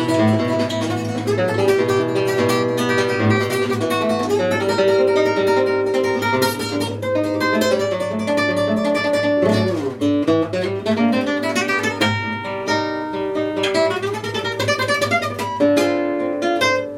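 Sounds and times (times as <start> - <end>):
acoustic guitar plucking: 0.0 - 16.9.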